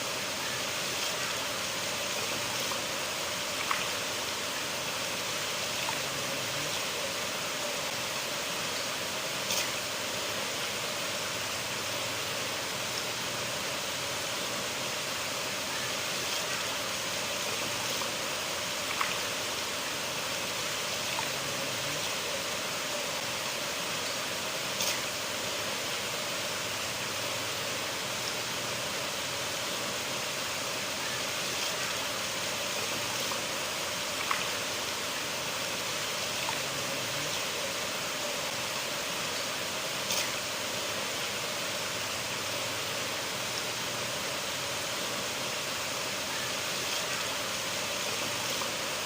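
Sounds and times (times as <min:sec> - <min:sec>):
river water flowing: 0:00.0 - 0:49.0
water splashes and drips: 0:00.1 - 0:49.0.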